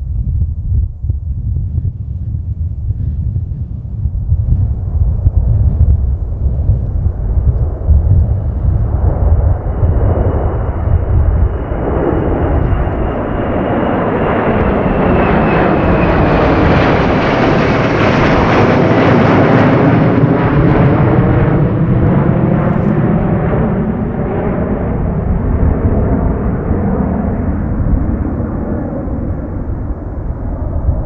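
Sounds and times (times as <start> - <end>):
jet engines roaring past: 0.0 - 31.0
wind buffeting microphone: 0.0 - 31.0.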